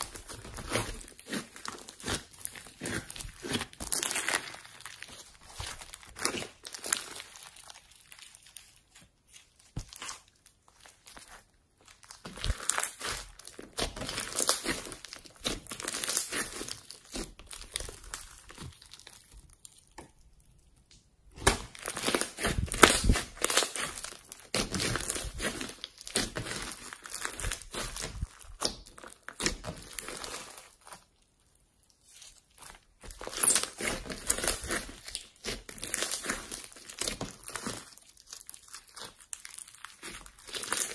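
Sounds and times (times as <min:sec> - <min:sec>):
slime squeezing and crackling: 0:00.0 - 0:40.9.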